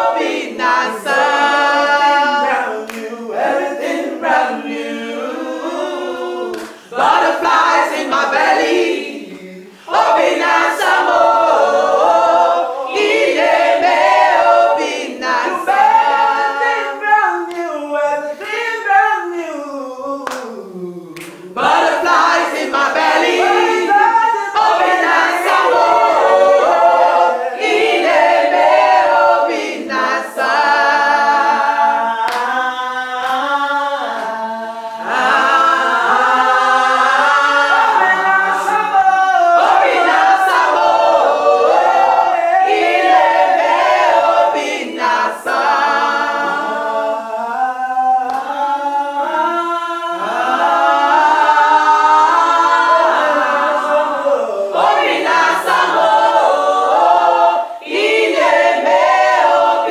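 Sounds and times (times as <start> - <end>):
group singing a cappella: 0.0 - 59.9.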